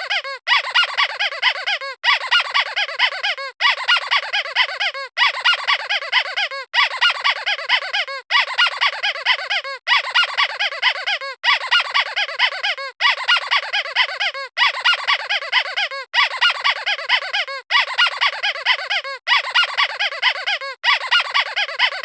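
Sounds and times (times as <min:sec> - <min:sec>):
squeaky squeeze toy: 0:00.0 - 0:22.0.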